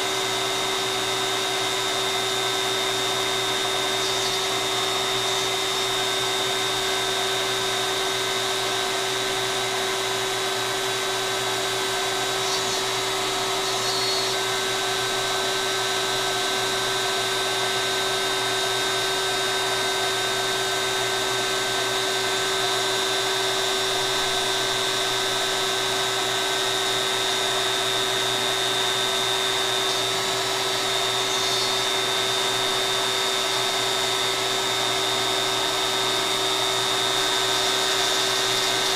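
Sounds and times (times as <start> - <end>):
router whining: 0.0 - 38.9.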